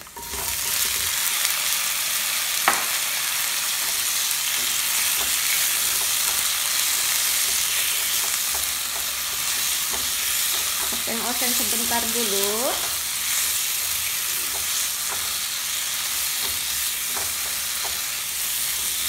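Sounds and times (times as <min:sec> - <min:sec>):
tomatoes sizzling in oil: 0:00.0 - 0:19.0
spatula stirring in pan: 0:03.4 - 0:19.0.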